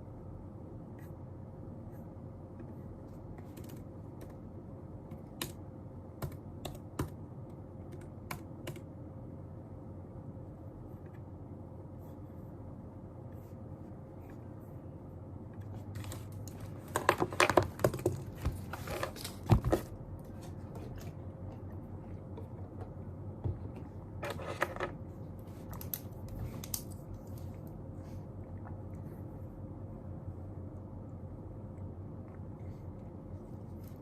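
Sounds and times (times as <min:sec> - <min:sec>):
faint room hum: 0:00.0 - 0:34.0.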